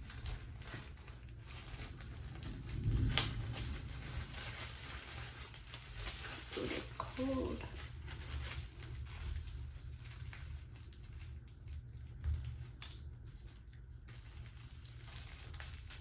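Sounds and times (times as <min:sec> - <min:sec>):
faint rustling and handling: 0:00.0 - 0:16.0
low steady rumble: 0:00.0 - 0:16.0.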